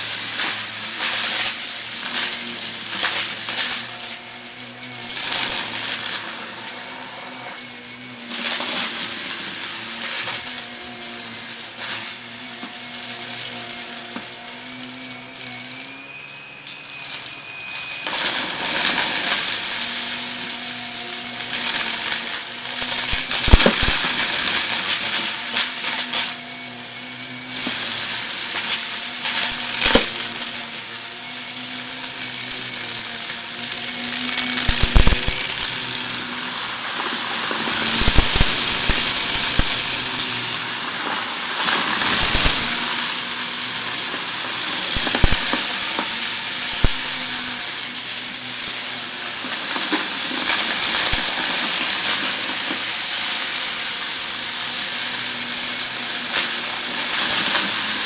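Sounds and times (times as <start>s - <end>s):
debris crackling in vacuum: 0.0s - 58.0s
vacuum cleaner running: 0.0s - 58.0s.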